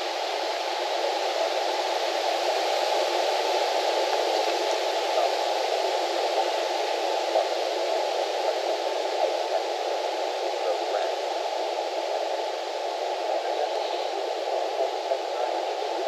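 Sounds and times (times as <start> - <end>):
steady static hiss: 0.0 - 16.0.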